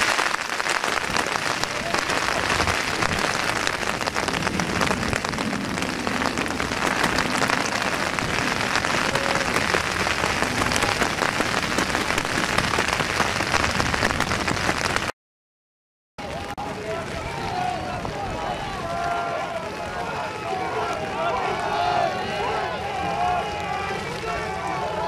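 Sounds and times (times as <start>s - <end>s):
steady rain pattering: 0.0s - 15.1s, 16.2s - 25.0s.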